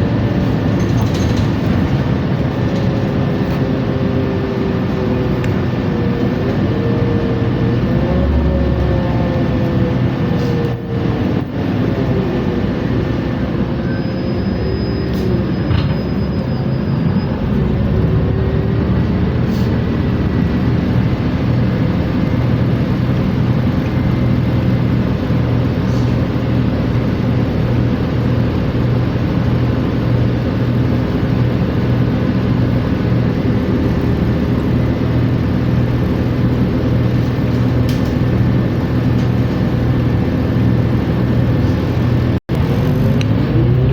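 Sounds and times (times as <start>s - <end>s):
bus engine low drone: 0.0s - 43.9s
transmission whine: 0.0s - 43.9s.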